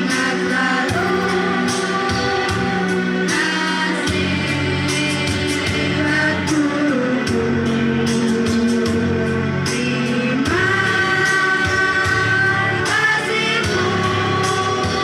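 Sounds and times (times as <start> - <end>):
children's choir singing: 0.0 - 7.0, 9.8 - 15.0
instrumental accompaniment: 0.0 - 15.0.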